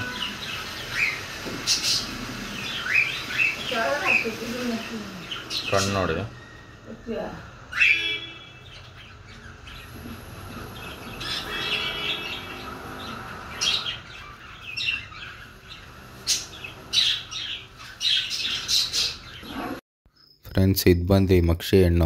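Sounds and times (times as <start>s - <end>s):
birds chirping and squawking: 0.0s - 20.4s.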